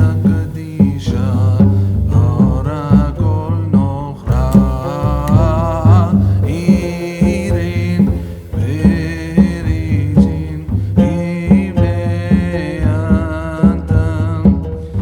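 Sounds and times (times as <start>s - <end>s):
background music with steady beat: 0.0s - 15.0s.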